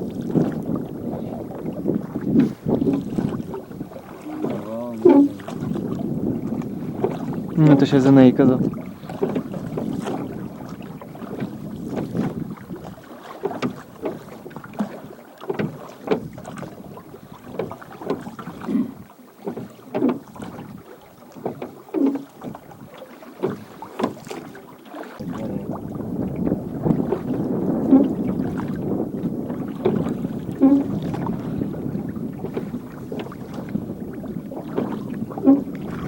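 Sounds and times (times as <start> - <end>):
faint water rush: 0.0 - 36.0
water splashing: 0.0 - 36.0.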